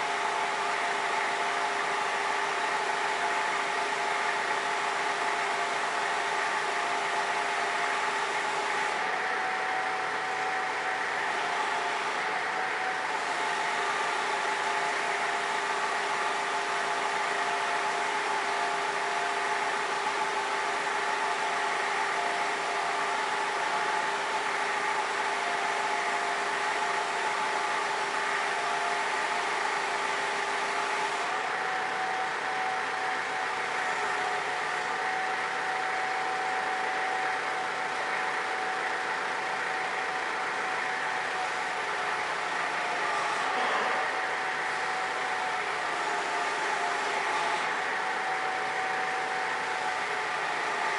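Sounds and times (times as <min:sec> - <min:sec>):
forklift hum and whine: 0:00.0 - 0:50.9.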